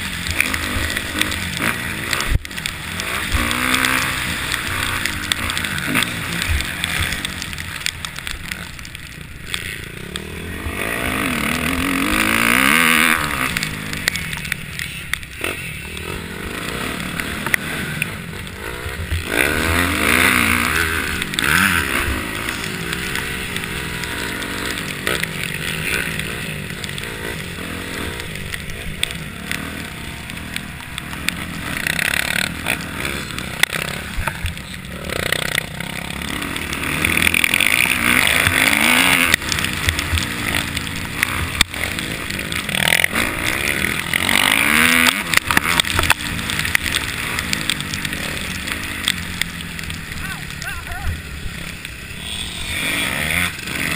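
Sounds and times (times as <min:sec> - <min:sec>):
dirt bikes revving and passing: 0:00.0 - 0:53.9.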